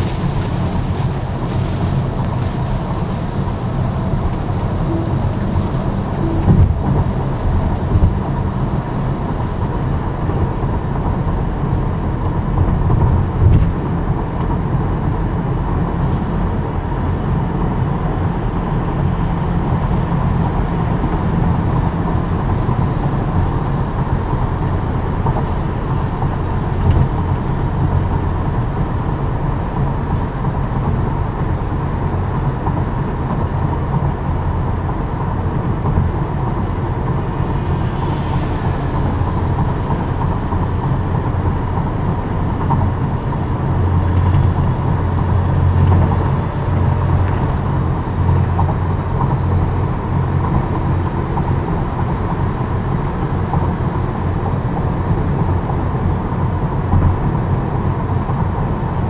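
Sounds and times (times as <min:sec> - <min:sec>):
tyre road noise on wet road: 0:00.0 - 0:59.0.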